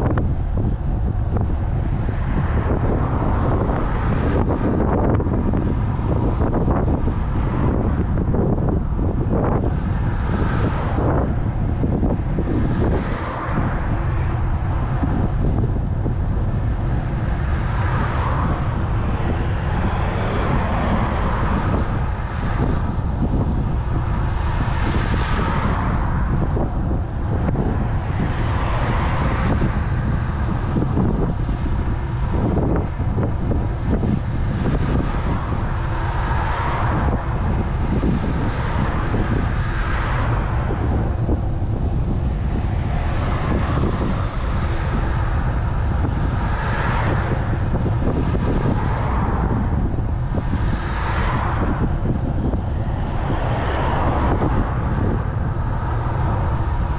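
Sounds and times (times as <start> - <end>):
cars passing: 0.0 - 56.9
wind rumble on microphone: 0.0 - 56.9.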